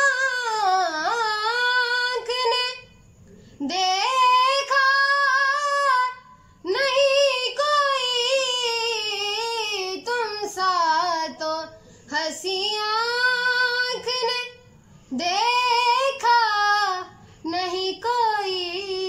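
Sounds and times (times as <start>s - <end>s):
boy singing unaccompanied: 0.0s - 2.9s, 3.6s - 19.0s.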